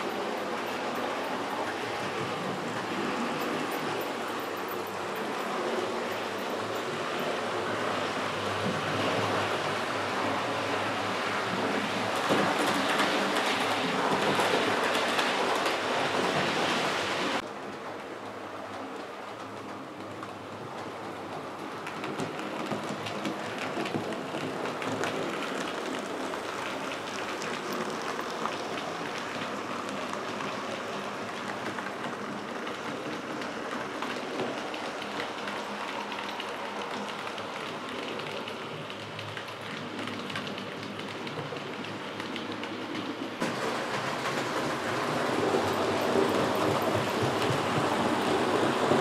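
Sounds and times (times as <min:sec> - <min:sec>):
model train rattling on track: 0:00.0 - 0:49.0.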